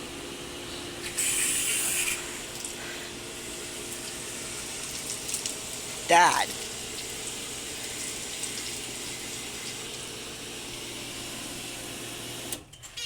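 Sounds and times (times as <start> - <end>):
pool pump running: 0.0 - 12.6.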